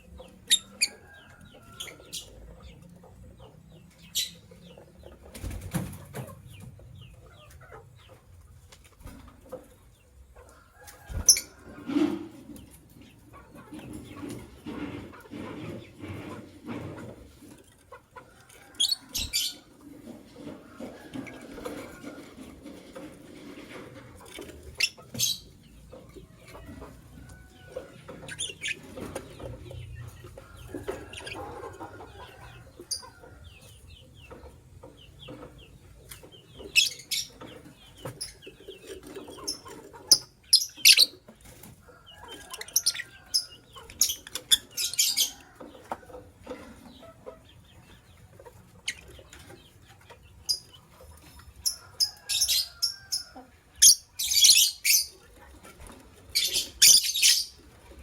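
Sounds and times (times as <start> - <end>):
birds chirping: 0.0 - 22.3, 23.0 - 58.0.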